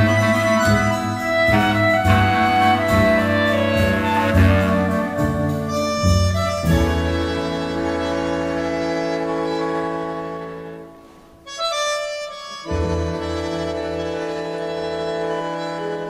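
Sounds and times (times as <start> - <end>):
orchestral film music: 0.0 - 10.9, 12.1 - 16.0.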